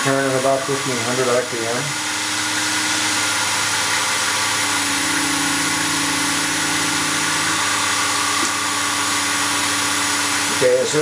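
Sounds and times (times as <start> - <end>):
wood lathe motor humming: 0.0 - 11.0.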